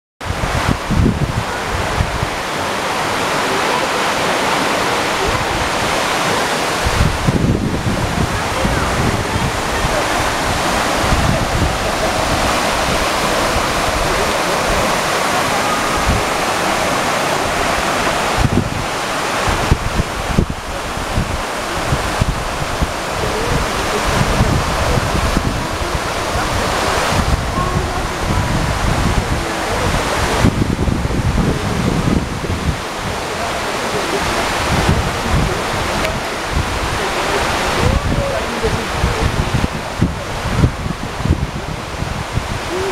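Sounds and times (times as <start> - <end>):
waterfall roaring: 0.2 - 42.9
wind bumping on microphone: 0.2 - 42.9.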